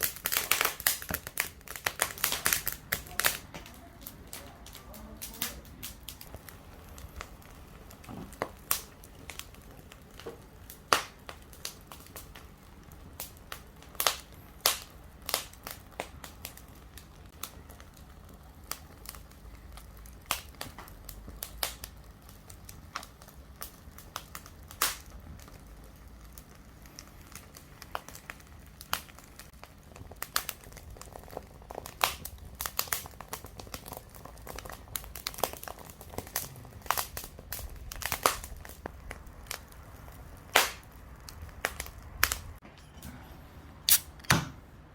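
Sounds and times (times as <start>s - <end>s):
campfire wood crackling: 0.0s - 42.6s, 43.4s - 44.3s
low hiss of fire: 0.0s - 44.8s.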